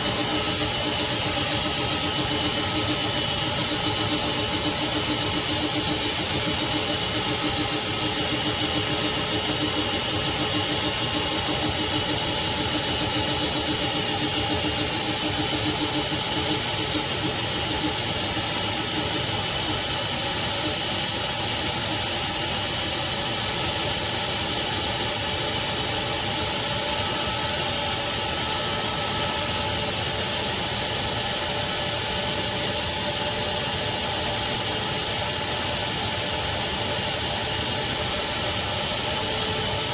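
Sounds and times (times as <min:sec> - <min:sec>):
shop vacuum motor whine: 0:00.0 - 0:39.9.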